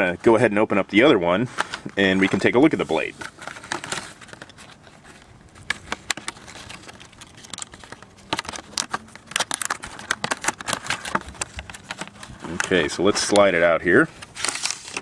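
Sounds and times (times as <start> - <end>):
plastic packaging crackling: 1.5 - 15.0.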